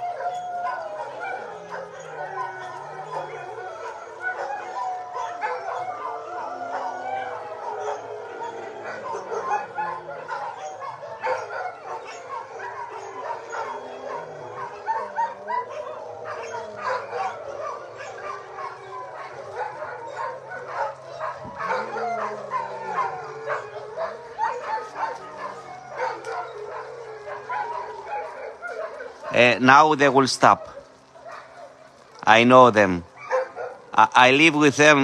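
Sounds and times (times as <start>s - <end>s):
dogs barking and yipping: 0.0s - 35.0s
dogs howling: 0.0s - 35.0s.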